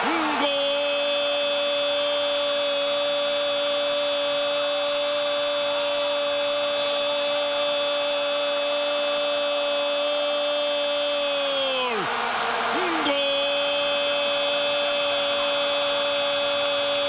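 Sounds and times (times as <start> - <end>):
commentator shouting goal call: 0.0 - 17.0
stadium crowd din: 0.0 - 17.0.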